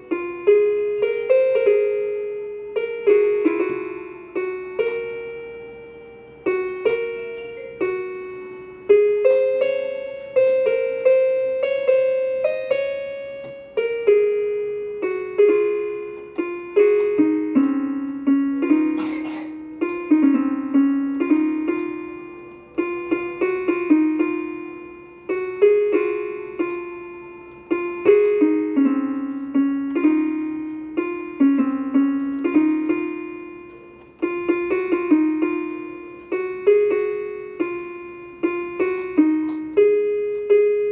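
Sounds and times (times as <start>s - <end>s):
electronic keyboard harp melody: 0.0s - 40.9s.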